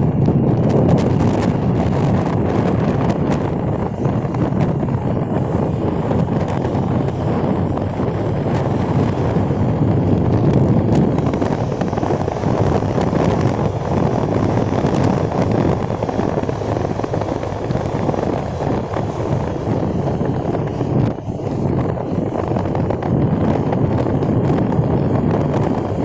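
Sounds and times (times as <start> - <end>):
car engine and road noise: 0.0 - 26.0
wind buffeting microphone: 0.0 - 26.0.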